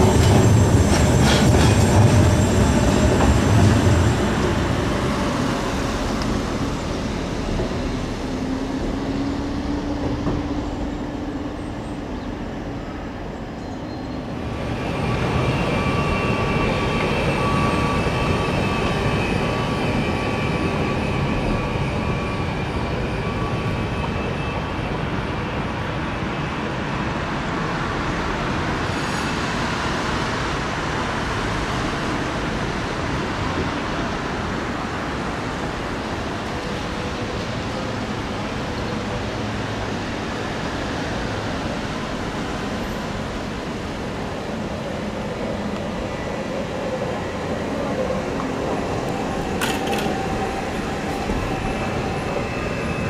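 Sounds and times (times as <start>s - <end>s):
electric trams running: 0.0s - 53.0s.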